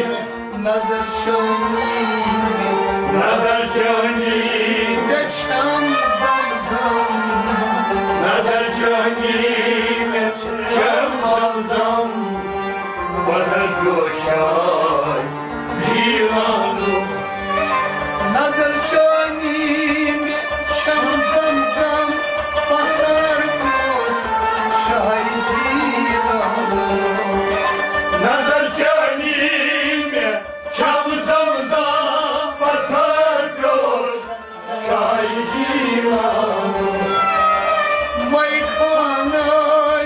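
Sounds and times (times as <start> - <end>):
harmonium sustained notes: 0.0 - 40.0.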